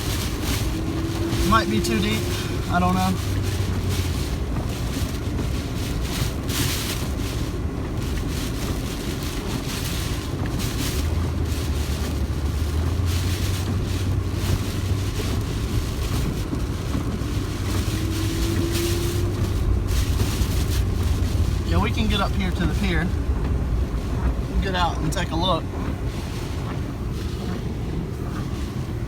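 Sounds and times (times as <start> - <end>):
car engine and road drone: 0.0 - 29.0
rushing wind noise: 0.0 - 29.0.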